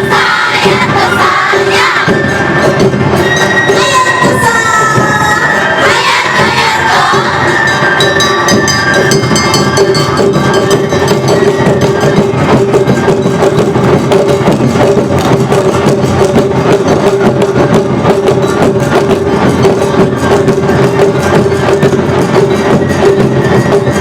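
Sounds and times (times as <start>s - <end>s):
taiko drums fast rhythm: 0.0s - 24.0s.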